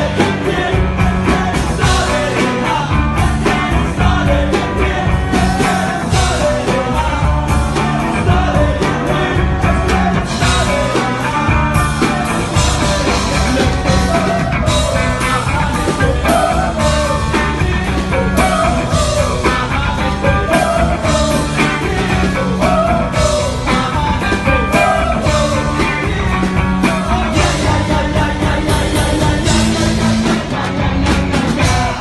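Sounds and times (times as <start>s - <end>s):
rock band playing loud: 0.0s - 32.0s.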